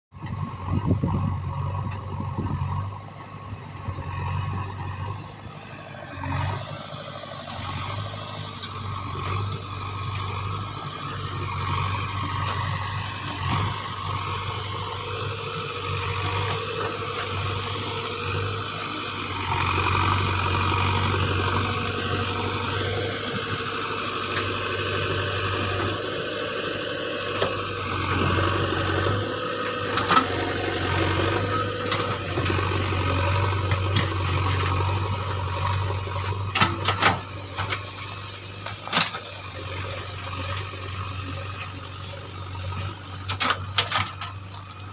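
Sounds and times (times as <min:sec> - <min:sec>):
backhoe diesel engine running: 0:00.1 - 0:44.9.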